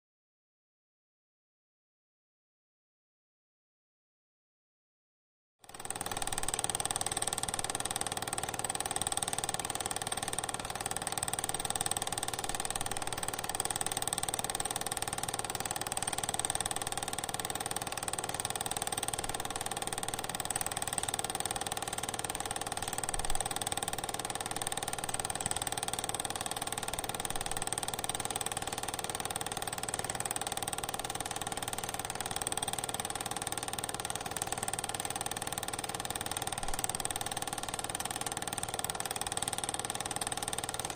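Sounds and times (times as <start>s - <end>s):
film projector whirring: 5.6s - 40.9s.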